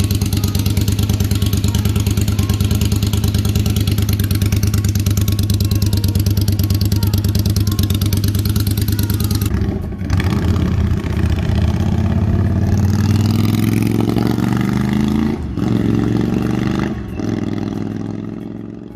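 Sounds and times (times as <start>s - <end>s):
motorcycle engine and exhaust: 0.0s - 18.9s.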